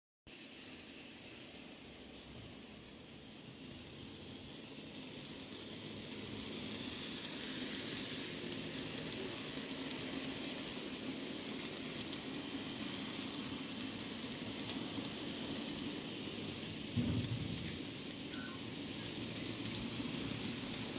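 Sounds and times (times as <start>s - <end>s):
model train wheels and motor whirring: 0.3s - 20.9s.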